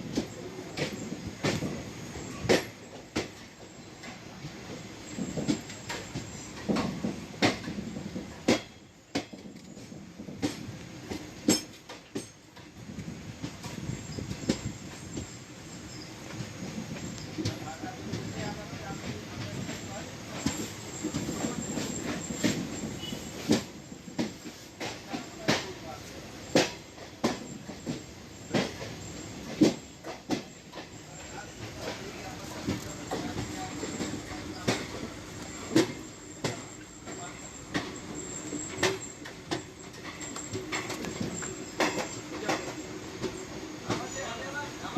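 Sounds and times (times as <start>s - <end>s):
train coach rumbling: 0.0s - 44.9s
wheels clacking on rails: 0.0s - 44.9s.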